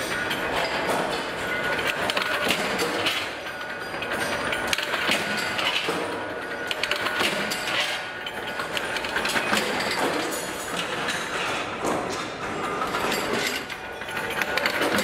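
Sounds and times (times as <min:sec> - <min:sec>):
machine clatter: 0:00.0 - 0:15.0.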